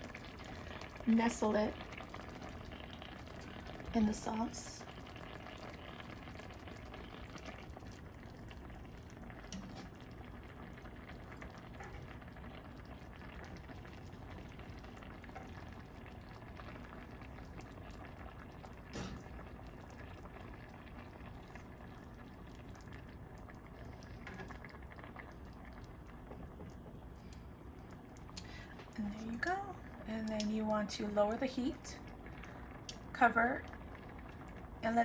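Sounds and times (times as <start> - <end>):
pan simmering and bubbling: 0.0 - 35.0.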